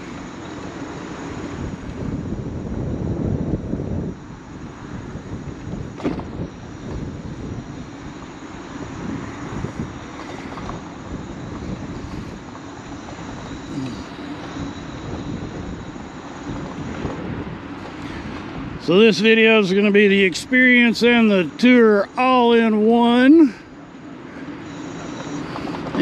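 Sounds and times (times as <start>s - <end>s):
wind buffeting microphone: 0.0s - 22.1s
scooter humming: 0.0s - 26.0s.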